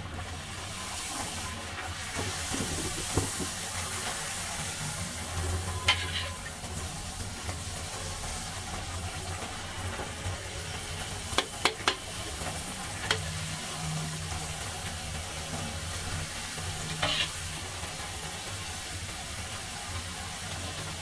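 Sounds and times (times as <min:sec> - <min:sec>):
oil sizzling and bubbling: 0:00.0 - 0:21.0.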